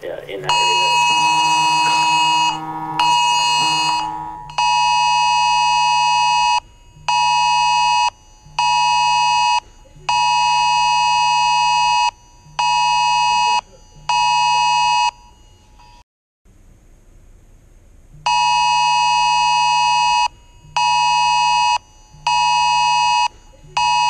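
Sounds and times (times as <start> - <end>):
phone emergency alert tone: 0.3 - 15.2, 18.3 - 24.0.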